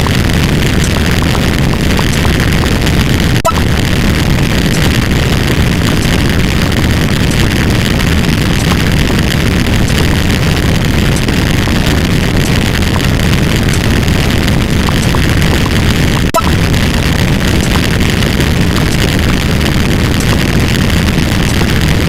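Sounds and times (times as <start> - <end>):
heavy engine-like rumble: 0.0 - 22.0.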